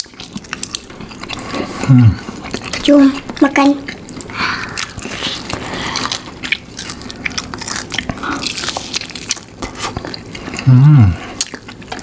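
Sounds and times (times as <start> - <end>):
wet squishy chewing: 0.0 - 12.0.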